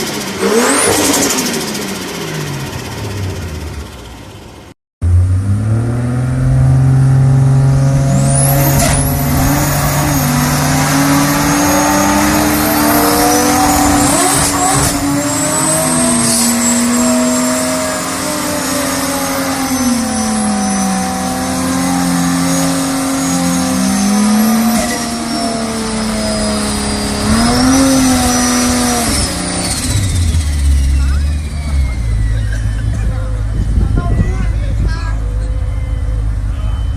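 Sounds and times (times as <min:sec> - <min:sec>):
car engine running: 0:00.0 - 0:36.9
high turbo whine: 0:00.0 - 0:36.9.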